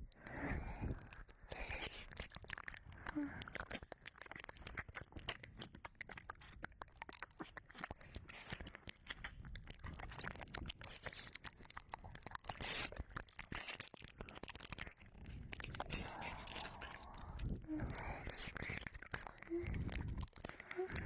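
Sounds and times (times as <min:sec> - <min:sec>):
wet mouth clicks and smacks: 0:00.1 - 0:21.0.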